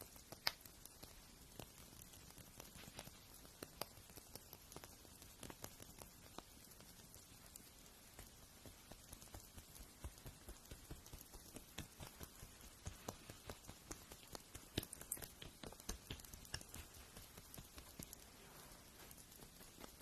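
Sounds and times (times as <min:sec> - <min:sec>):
soft hiss: 0:00.0 - 0:20.0.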